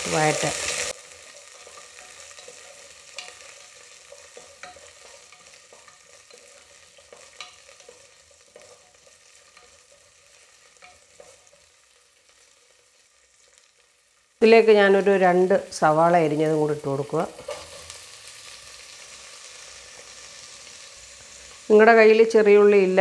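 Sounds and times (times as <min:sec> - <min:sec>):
shallots sizzling in oil: 0:00.0 - 0:23.0.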